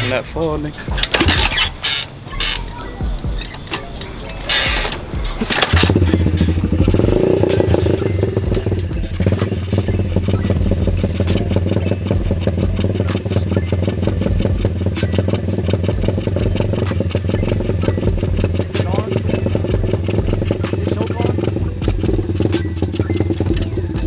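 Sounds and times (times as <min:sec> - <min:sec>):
dirt bike engine revving and idling: 0:00.0 - 0:24.0
kick-start knocks: 0:00.8 - 0:24.0.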